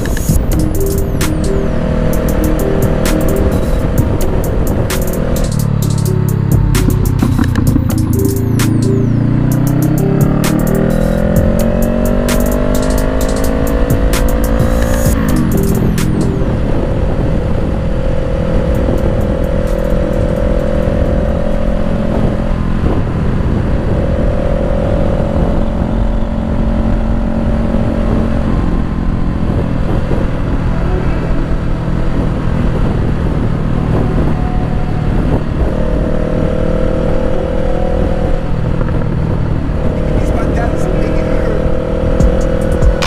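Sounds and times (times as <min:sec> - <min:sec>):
wind noise: 0:00.0 - 0:08.2, 0:11.3 - 0:43.0
motorcycle engine cruising: 0:00.0 - 0:43.0.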